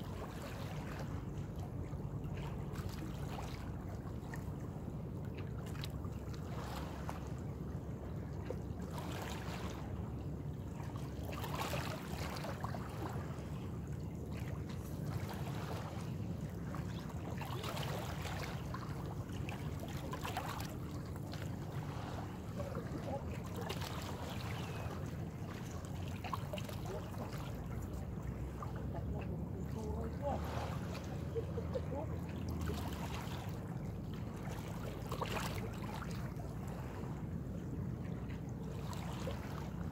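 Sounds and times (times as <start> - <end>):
small waves lapping on rocks: 0.0 - 39.9.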